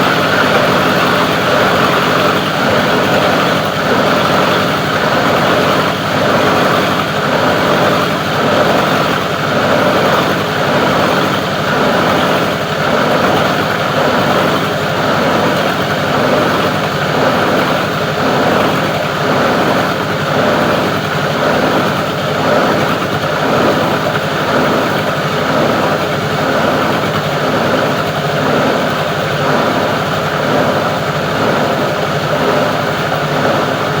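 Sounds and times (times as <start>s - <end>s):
plastic grinder machine running: 0.0s - 34.0s.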